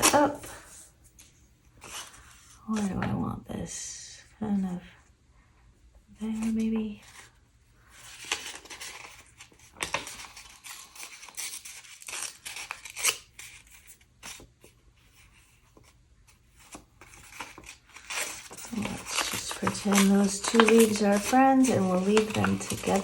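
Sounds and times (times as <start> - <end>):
paper rustling and tearing: 0.0 - 3.0, 6.3 - 23.0.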